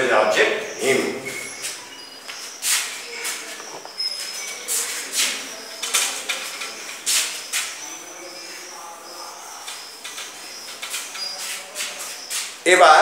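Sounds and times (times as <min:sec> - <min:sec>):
eraser scrubbing a whiteboard: 0:01.6 - 0:12.6.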